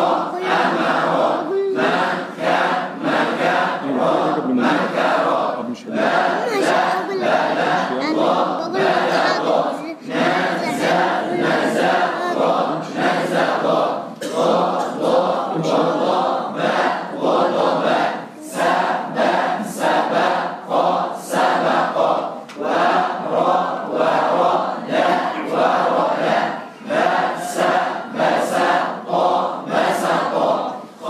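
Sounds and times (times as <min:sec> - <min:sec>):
group chanting syllables in unison: 0:00.0 - 0:31.0.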